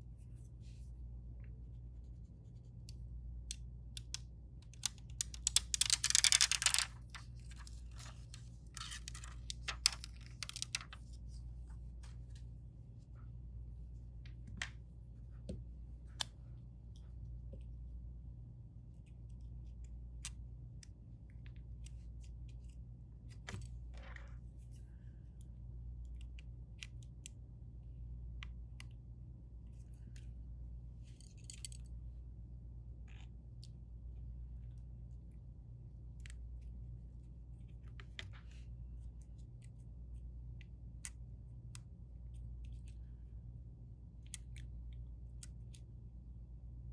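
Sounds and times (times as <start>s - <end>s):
low electrical hum: 0.0s - 46.9s.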